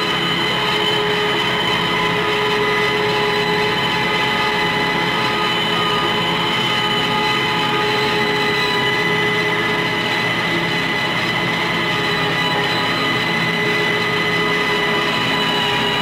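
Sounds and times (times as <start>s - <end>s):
steady whining tones: 0.0s - 16.0s.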